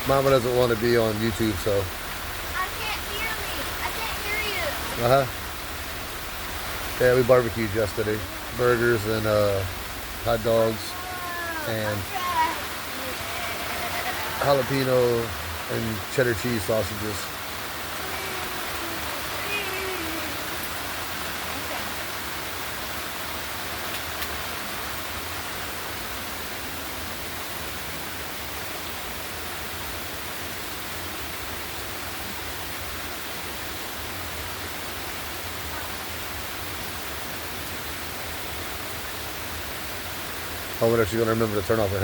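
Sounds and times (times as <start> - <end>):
heavy rain hissing: 0.0 - 42.0.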